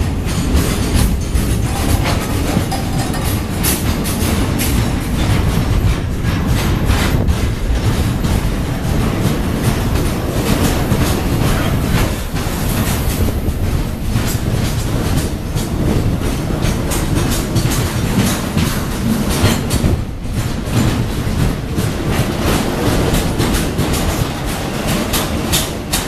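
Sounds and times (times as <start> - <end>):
train rumble: 0.0 - 26.0
train wheels clattering over joints: 0.0 - 26.0.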